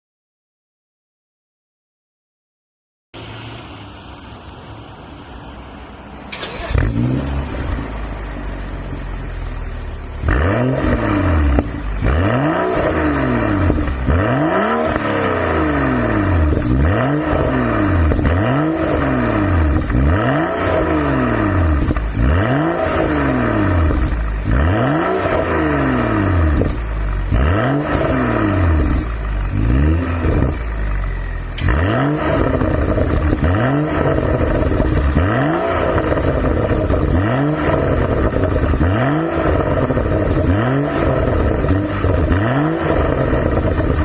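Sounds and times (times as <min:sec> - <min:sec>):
car engine revving: 0:03.2 - 0:44.0.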